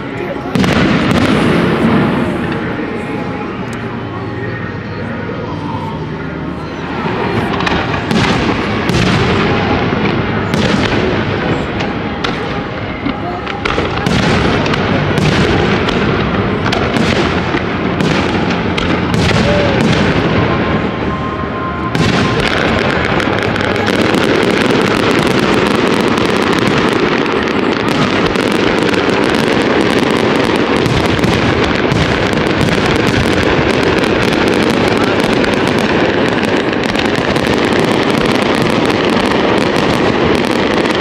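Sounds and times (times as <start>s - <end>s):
fireworks barrage bangs and crackle: 0.0s - 41.0s
fireworks bursting: 0.0s - 41.0s.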